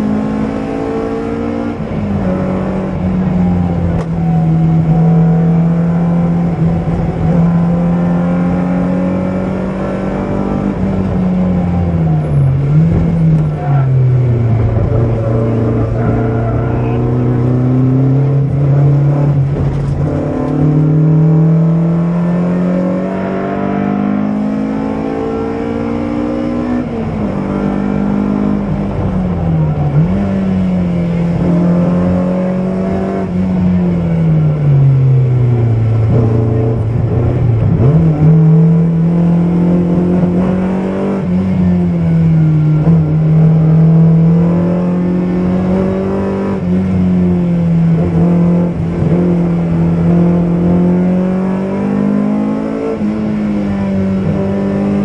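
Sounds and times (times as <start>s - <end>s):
car engine revving at speed: 0.0s - 55.0s.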